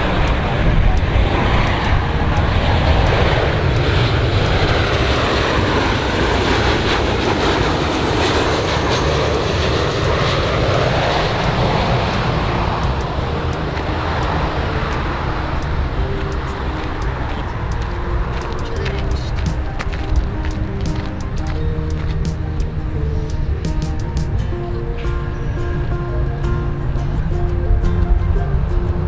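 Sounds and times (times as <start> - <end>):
airplane engine passing: 0.0 - 29.0.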